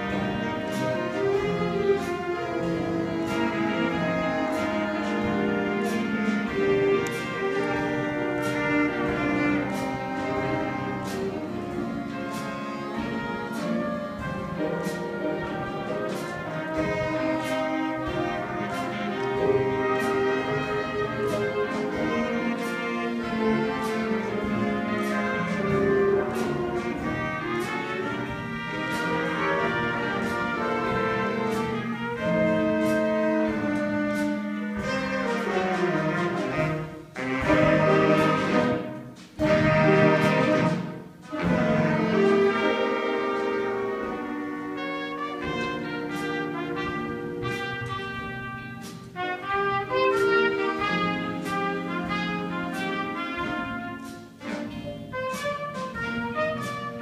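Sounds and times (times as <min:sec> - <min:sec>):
jazz band playing: 0:00.0 - 0:57.0.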